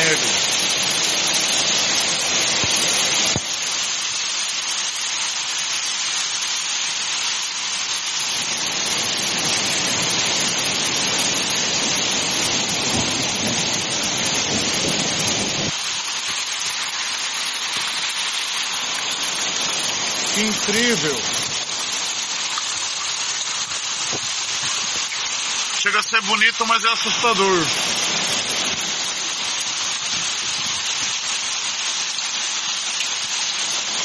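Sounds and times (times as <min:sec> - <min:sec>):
hail and rain pelting: 0:00.0 - 0:34.0.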